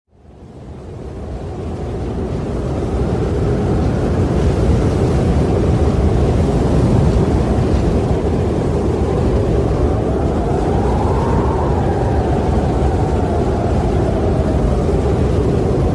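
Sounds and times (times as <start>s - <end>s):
wind blowing: 0.3s - 15.9s.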